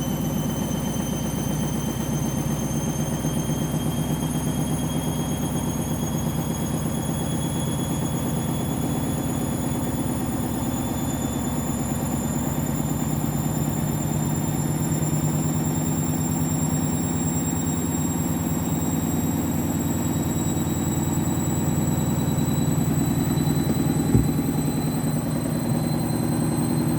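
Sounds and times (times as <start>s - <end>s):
washing machine spinning: 0.0s - 26.9s.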